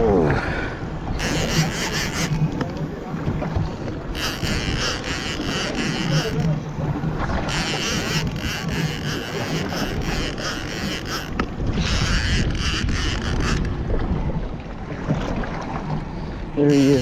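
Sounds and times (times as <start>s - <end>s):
boat engine hum: 0.0s - 17.0s
wind buffeting microphone: 0.0s - 17.0s.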